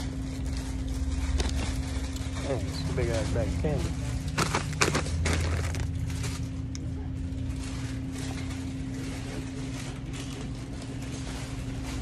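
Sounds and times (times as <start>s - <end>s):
shop machinery humming: 0.0s - 12.0s.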